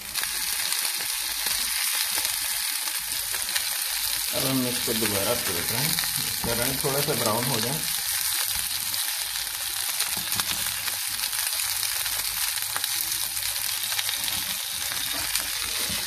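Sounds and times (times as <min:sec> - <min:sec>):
kebabs sizzling in oil: 0:00.0 - 0:16.0.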